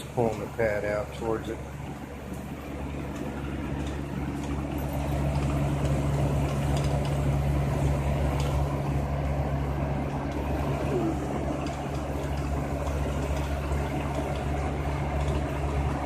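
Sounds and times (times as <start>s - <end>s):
box fan humming: 0.0s - 16.0s.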